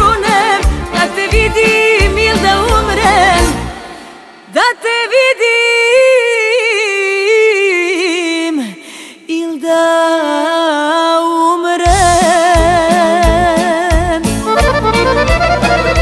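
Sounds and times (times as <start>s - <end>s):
woman singing a cappella: 0.0s - 14.3s.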